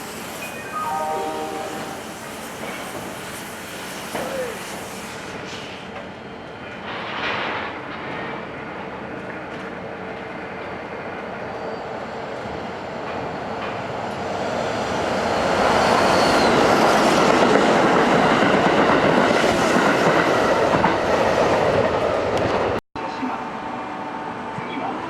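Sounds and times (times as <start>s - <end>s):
electric train running on rails: 0.0s - 22.8s.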